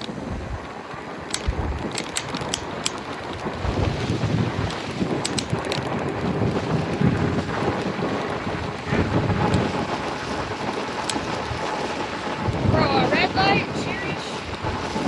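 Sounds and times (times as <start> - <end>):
sharp ticks: 0.0 - 13.6
wind buffeting microphone: 0.0 - 15.0.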